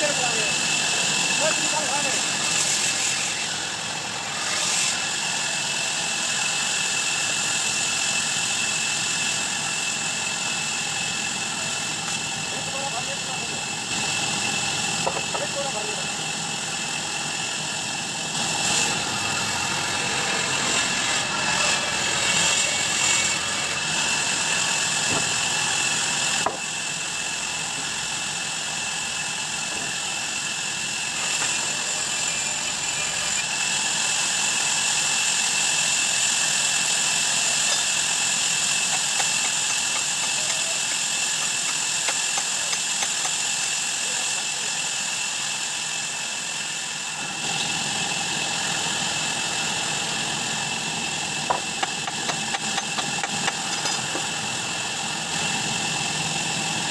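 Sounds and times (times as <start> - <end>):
band saw running: 0.0 - 56.9.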